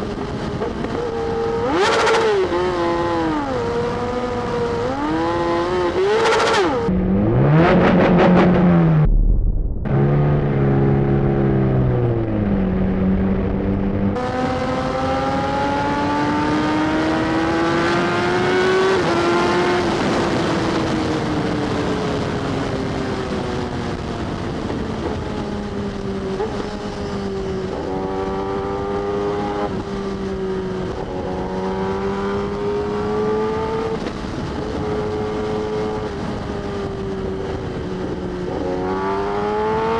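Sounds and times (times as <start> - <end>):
motorbike engine accelerating: 0.0 - 39.9
wind rush: 0.0 - 39.9.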